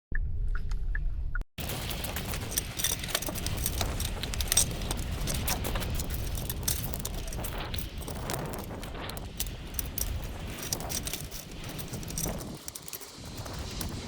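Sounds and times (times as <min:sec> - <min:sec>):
wind rumbling on microphone: 0:00.2 - 0:14.0
rapid clattering and rattling: 0:01.6 - 0:14.0.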